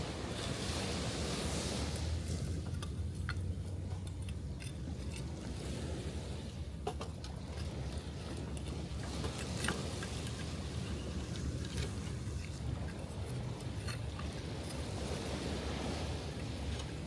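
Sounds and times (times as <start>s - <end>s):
low rumble of surf: 0.0s - 17.0s.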